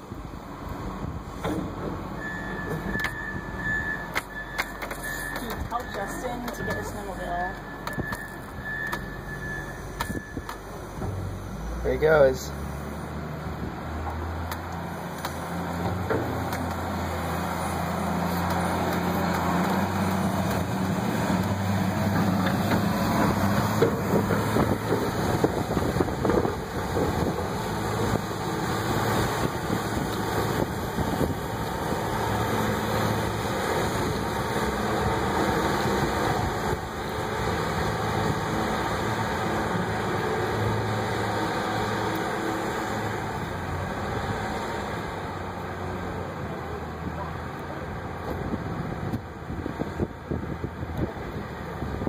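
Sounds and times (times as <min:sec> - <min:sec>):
front-end loader diesel engine: 0:00.0 - 0:52.0.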